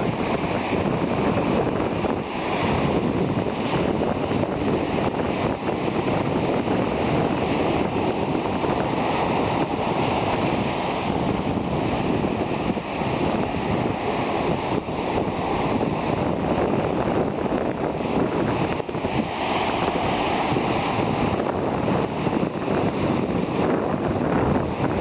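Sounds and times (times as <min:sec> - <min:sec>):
surf rushing on beach: 0:00.0 - 0:25.0
wind buffeting microphone: 0:00.0 - 0:25.0.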